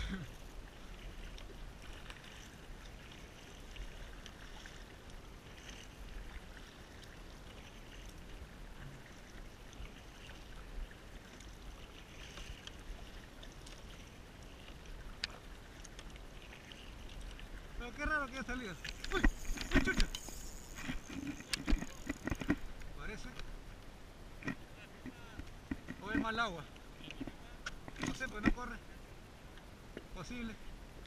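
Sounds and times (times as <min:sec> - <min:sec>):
kayak paddle splashing: 0:00.0 - 0:31.0.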